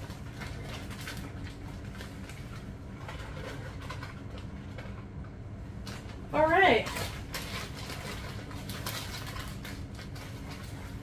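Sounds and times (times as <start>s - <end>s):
low steady hum: 0.0s - 11.0s
plastic bag crinkling: 0.0s - 11.0s.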